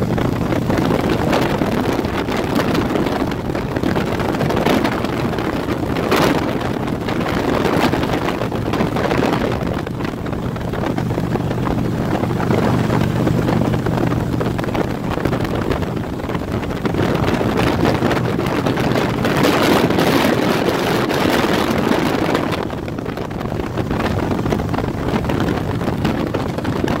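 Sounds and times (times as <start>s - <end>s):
motorcycle engine and road drone: 0.0s - 27.0s
wind buffeting microphone: 0.0s - 27.0s.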